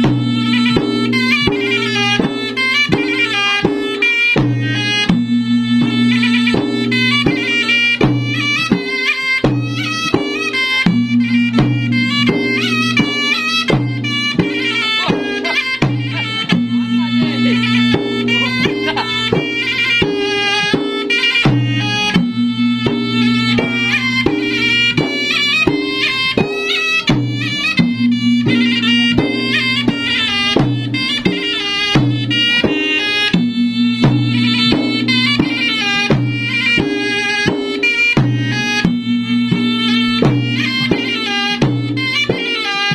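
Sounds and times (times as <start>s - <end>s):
drums in fast rhythm: 0.0s - 42.9s
reedy wind instrument melody: 0.0s - 42.9s.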